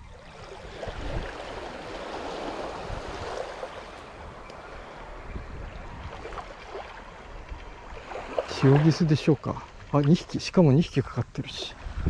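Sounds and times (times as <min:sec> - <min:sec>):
wind rumble on microphone: 0:00.0 - 0:08.8, 0:10.9 - 0:12.0
small waves washing on beach: 0:00.0 - 0:12.0.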